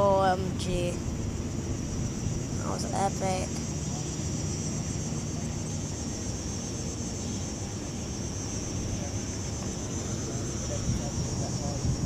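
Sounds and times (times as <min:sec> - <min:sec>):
insects buzzing: 0:00.0 - 0:12.0
low steady rumble: 0:00.0 - 0:12.0.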